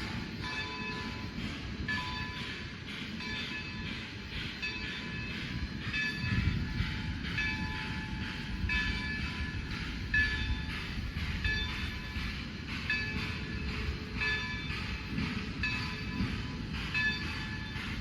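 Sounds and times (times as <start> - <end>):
locomotive bell ringing: 0.0 - 18.0
train rumbling past: 0.0 - 18.0.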